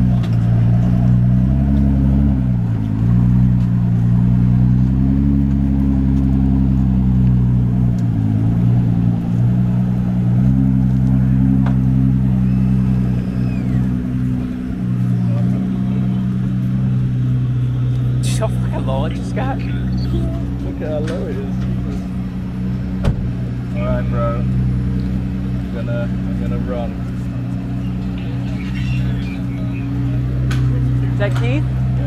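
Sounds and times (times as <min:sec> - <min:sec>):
car engine at low revs: 0:00.0 - 0:32.0.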